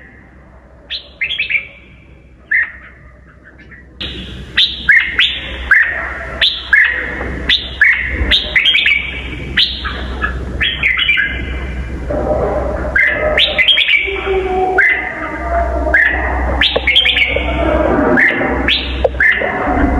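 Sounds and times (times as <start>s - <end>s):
steady low hum: 0.0s - 19.9s
bird singing: 0.9s - 11.8s, 12.8s - 19.7s.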